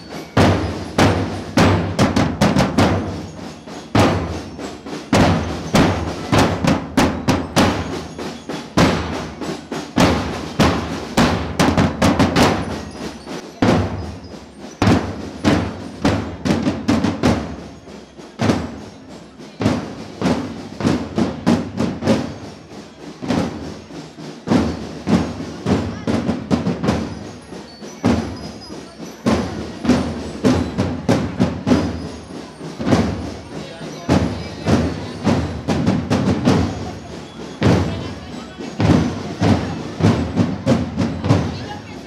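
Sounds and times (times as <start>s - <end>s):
marching bass drums: 0.0s - 42.0s.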